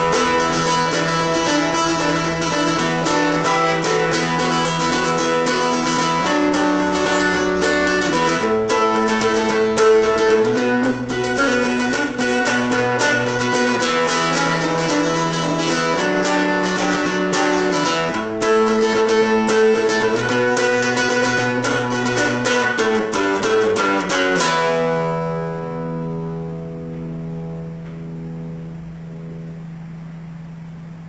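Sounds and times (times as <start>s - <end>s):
acoustic guitar picked and strummed: 0.0s - 31.0s.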